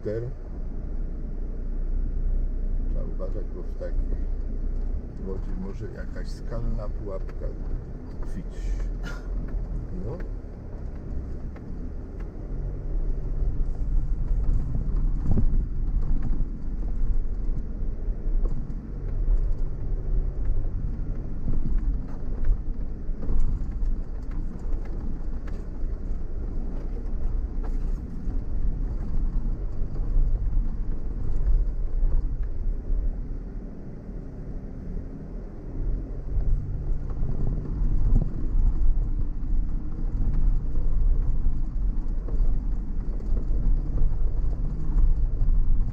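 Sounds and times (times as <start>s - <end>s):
engine running at low speed: 0.0s - 45.9s.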